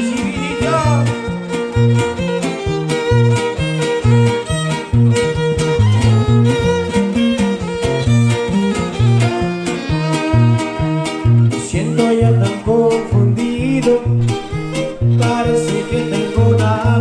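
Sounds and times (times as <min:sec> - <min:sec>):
bowed violin melody: 0:00.0 - 0:17.0
strummed guitars: 0:00.0 - 0:17.0.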